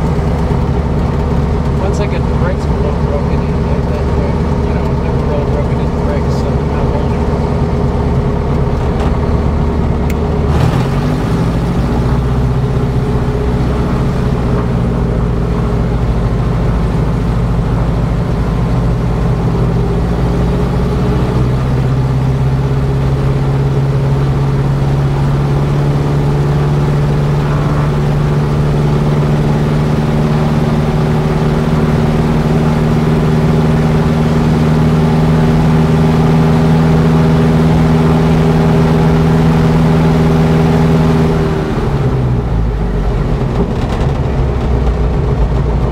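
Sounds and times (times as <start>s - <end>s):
propeller aircraft engine running: 0.0s - 45.9s.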